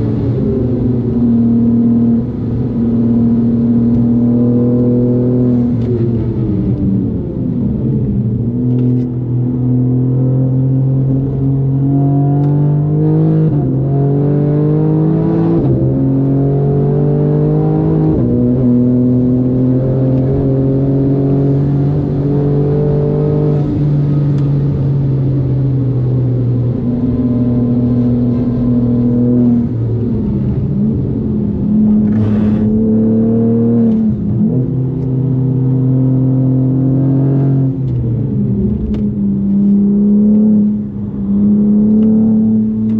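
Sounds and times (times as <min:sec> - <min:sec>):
car engine accelerating through gears: 0:00.0 - 0:42.9.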